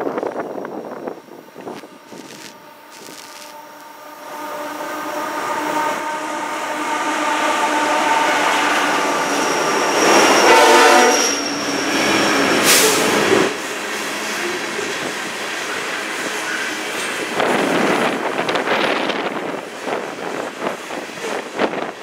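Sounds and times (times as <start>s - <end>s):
diesel locomotive passing: 0.0s - 22.0s.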